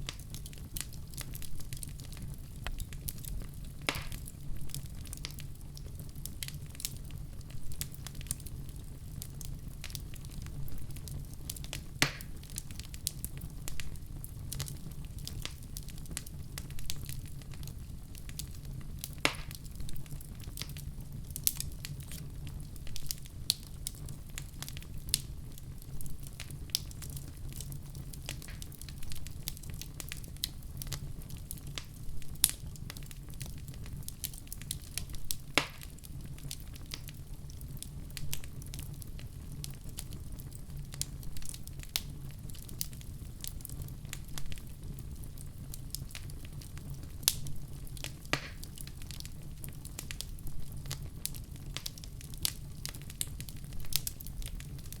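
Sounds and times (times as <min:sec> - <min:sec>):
fire crackling and popping: 0:00.0 - 0:55.0
fire rumbling in a fireplace: 0:00.0 - 0:55.0.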